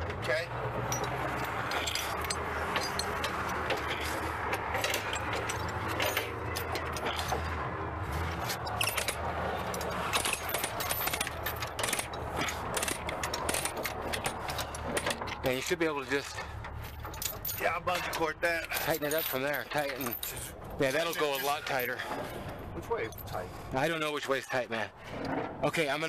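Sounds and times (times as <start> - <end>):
steel chain clinking and rattling: 0.2 - 26.0.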